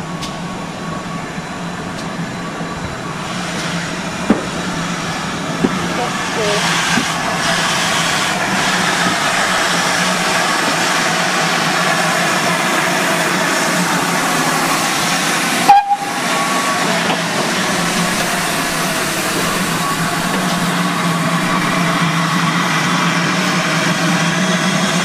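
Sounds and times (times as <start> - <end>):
steam hissing: 0.0 - 25.0.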